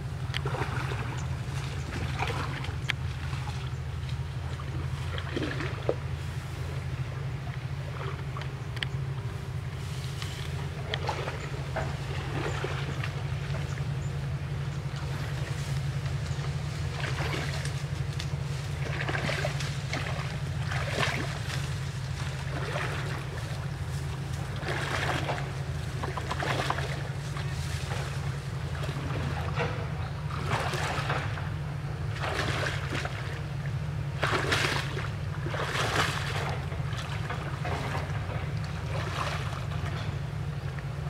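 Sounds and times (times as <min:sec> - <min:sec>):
steady low rumble: 0:00.0 - 0:41.0
water splashing from wading: 0:00.0 - 0:41.0.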